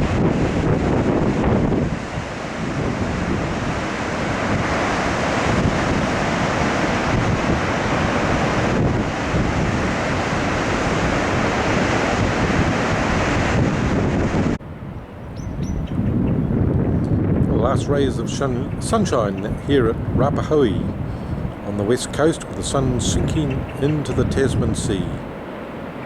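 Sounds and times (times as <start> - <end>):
ocean surf breaking on beach: 0.0 - 15.4, 16.6 - 26.0
wind buffeting microphone: 0.0 - 26.0.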